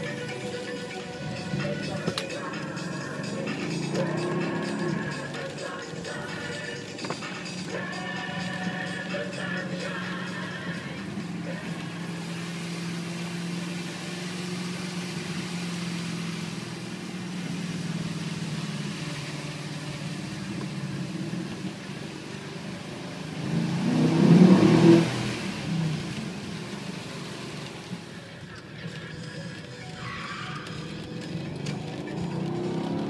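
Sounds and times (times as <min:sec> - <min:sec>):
car engine heard from inside: 0:00.0 - 0:29.1, 0:30.5 - 0:33.0.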